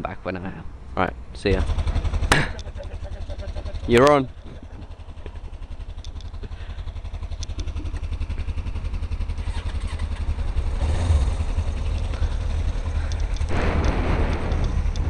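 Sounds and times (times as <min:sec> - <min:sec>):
motorcycle engine running: 0:01.5 - 0:15.0.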